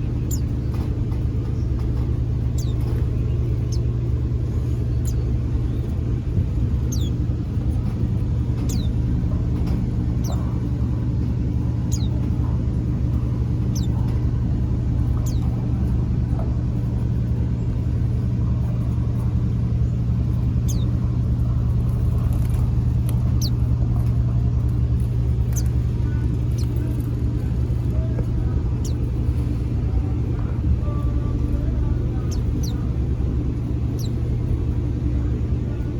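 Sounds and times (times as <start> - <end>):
low motor hum: 0.0 - 35.9
small birds chirping: 0.0 - 35.9.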